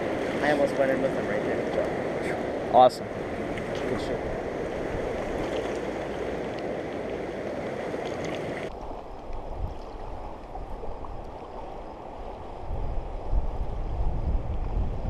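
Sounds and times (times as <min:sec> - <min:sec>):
rushing river water: 0:00.0 - 0:13.6
wind rumbling on microphone: 0:00.0 - 0:15.0.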